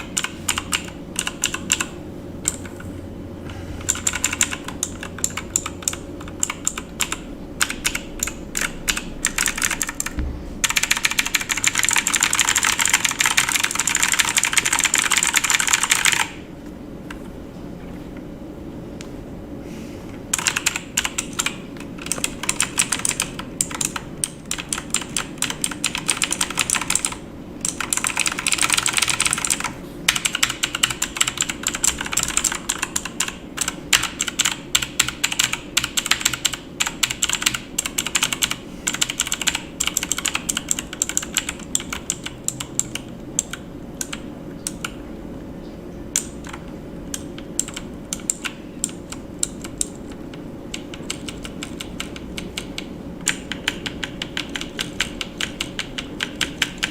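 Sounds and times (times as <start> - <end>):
typing on computer keyboard: 0.0 - 2.8, 3.8 - 16.4, 20.3 - 45.0, 46.1 - 56.9
faint steady hum: 0.0 - 56.9.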